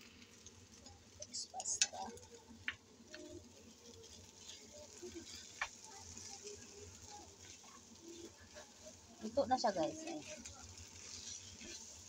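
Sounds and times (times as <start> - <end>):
spatula tossing noodles in pan: 0.0 - 12.0.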